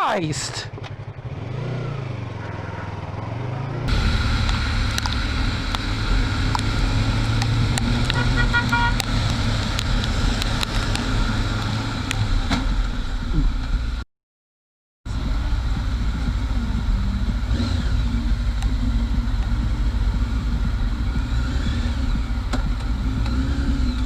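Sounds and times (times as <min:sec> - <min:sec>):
road noise: 0:00.0 - 0:14.0, 0:15.1 - 0:24.0
vehicle engine hum: 0:00.0 - 0:14.0, 0:15.1 - 0:24.0.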